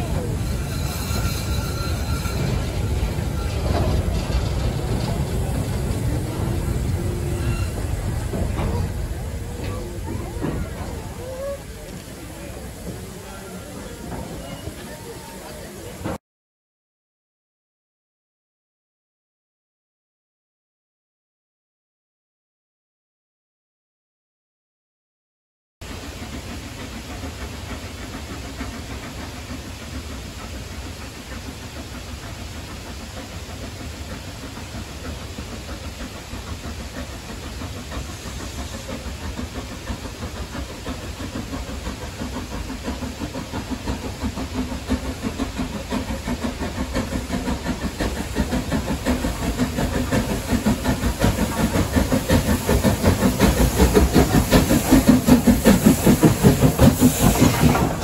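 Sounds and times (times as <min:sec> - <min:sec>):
steam hissing: 0:00.0 - 0:16.2, 0:25.8 - 0:58.0
steam locomotive exhaust beats: 0:00.0 - 0:16.2, 0:25.8 - 0:58.0.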